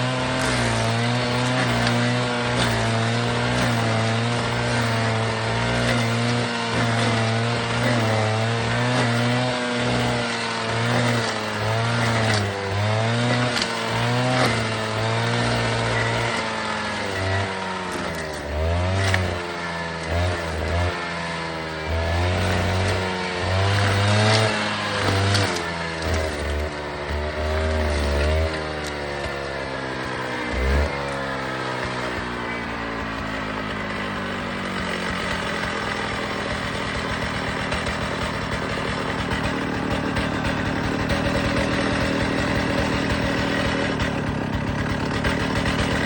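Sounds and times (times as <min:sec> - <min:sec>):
stump grinder engine under load: 0:00.0 - 0:46.0.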